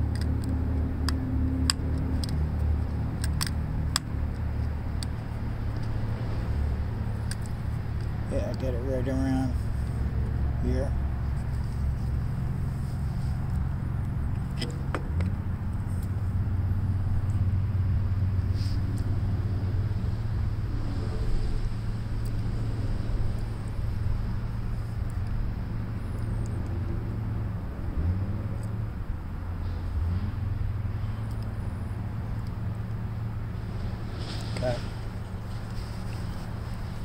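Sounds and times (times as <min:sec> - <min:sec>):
engine rumbling: 0:00.0 - 0:37.0.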